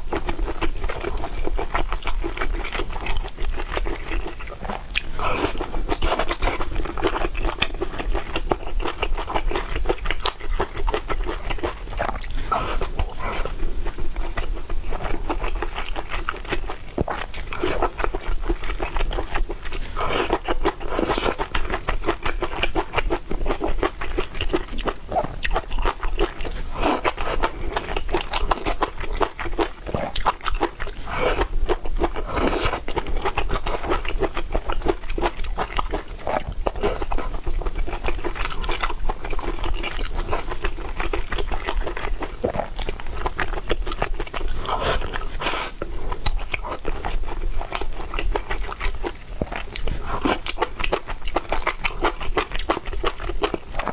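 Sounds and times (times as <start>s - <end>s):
chewing and crunching food: 0.0s - 53.9s.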